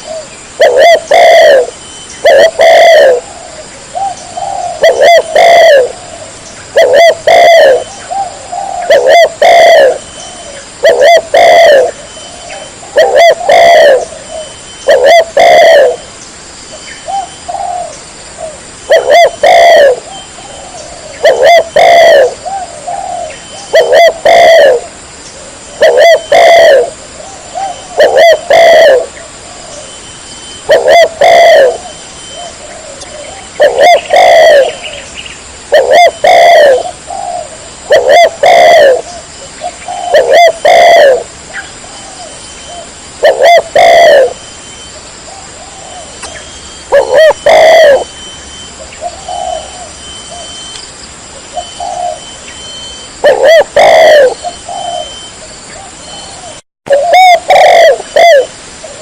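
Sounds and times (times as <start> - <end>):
dove cooing: 0.0 - 16.1, 17.0 - 50.7, 51.4 - 59.0.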